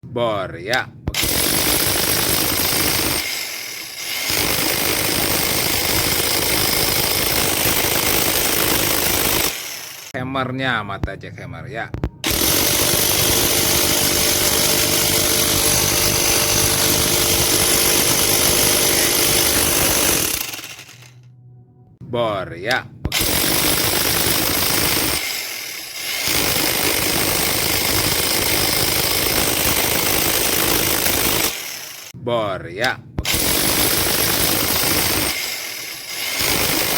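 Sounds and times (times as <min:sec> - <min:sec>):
rotary hammer drilling: 0:01.1 - 0:10.2, 0:12.2 - 0:21.2, 0:23.1 - 0:32.2, 0:33.2 - 0:36.9.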